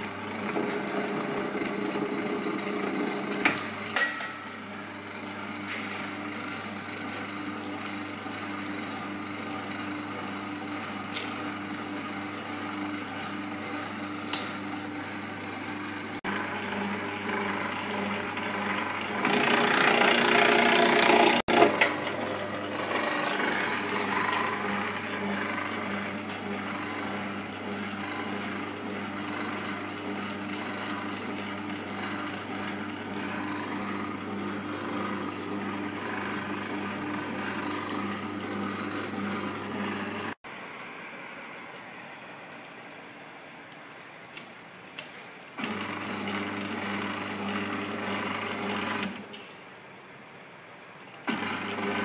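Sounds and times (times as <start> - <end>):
cable stripping machine humming: 0.0 - 40.9, 45.5 - 49.6, 51.2 - 52.0.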